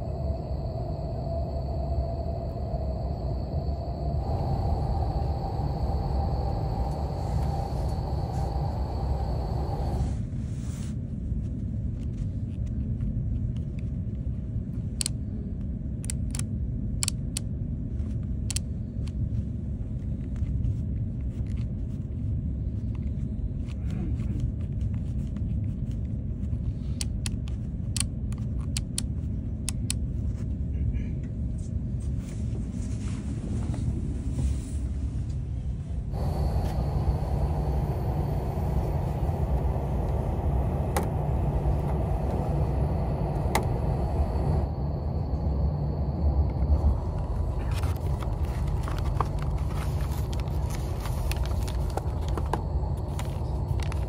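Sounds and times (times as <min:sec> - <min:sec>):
train rumbling at speed: 0:00.0 - 0:54.0.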